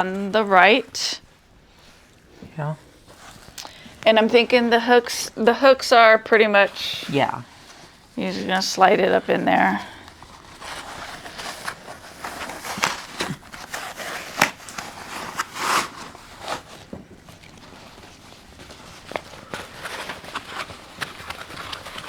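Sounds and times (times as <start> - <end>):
fabric rustling: 0.0 - 22.0.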